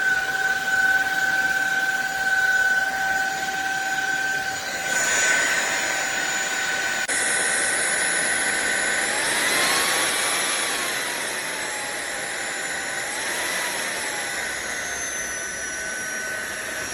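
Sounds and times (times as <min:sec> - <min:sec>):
vacuum cleaner motor whining: 0:00.0 - 0:16.9.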